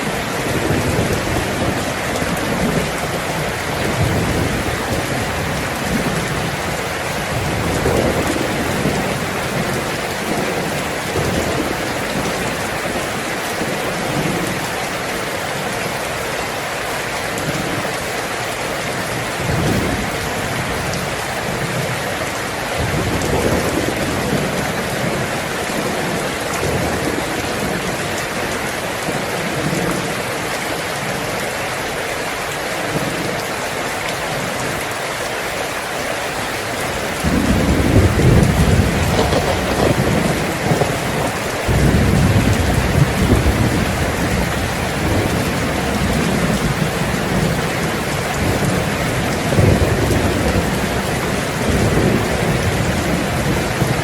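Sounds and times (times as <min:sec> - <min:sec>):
thunder rumbling: 0:00.0 - 0:16.0, 0:19.0 - 0:30.4, 0:36.3 - 0:54.0
heavy rain on a tin roof: 0:00.0 - 0:54.0.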